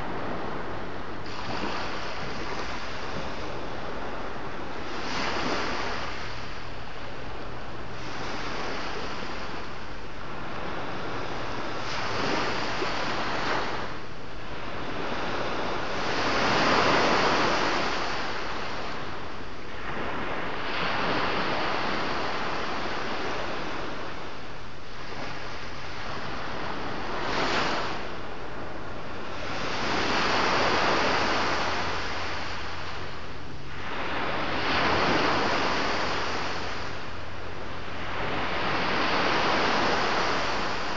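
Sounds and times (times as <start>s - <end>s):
sea waves breaking: 0.0s - 40.9s
wind on microphone: 0.0s - 40.9s.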